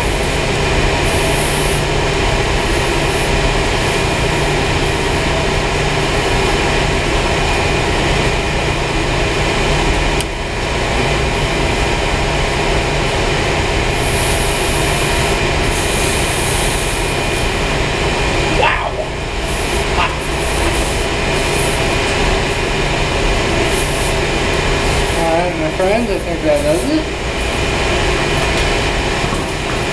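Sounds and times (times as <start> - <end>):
boiler room machinery drone: 0.0 - 29.9.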